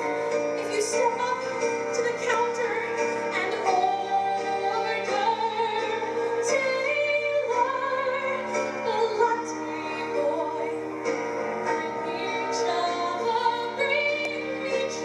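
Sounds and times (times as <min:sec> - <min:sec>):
musical accompaniment: 0:00.0 - 0:15.0
woman singing into microphone: 0:00.0 - 0:15.0.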